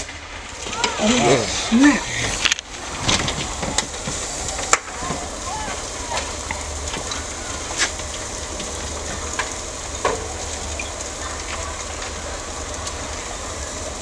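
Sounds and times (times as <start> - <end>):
fire crackling and popping: 0.0 - 14.0
loud cracks of fire: 0.0 - 14.0.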